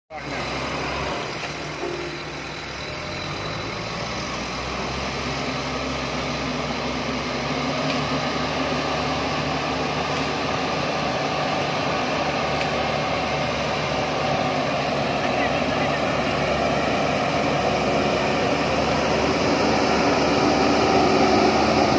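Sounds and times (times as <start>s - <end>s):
heavy diesel machinery running: 0.1s - 21.9s.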